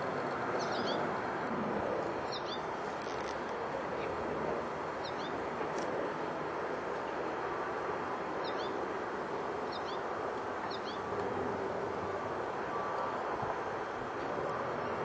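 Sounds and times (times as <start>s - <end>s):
urban background noise: 0.0s - 15.0s.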